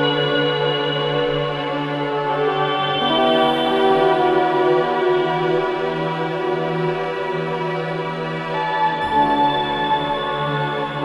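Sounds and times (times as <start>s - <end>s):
ambient music: 0.0s - 11.0s.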